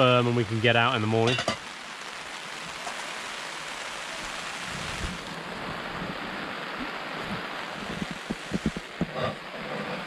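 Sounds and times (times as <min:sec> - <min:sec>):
heavy rain on a tarpaulin: 0:00.0 - 0:10.0.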